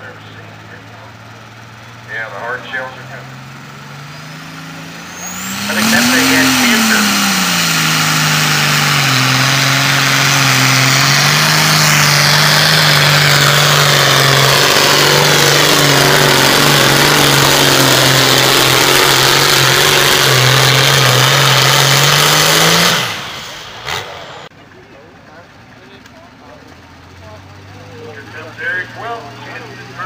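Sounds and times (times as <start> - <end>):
diesel engine running at high revs: 0.0 - 24.5, 25.3 - 30.0.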